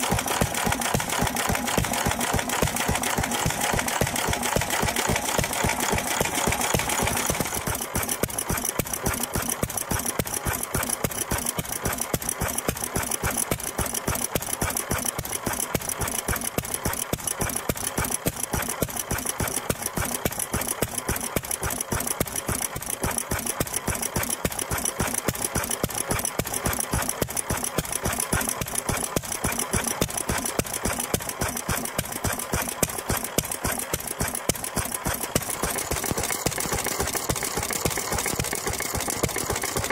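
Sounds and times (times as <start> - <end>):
stationary engine clattering: 0.0 - 39.9.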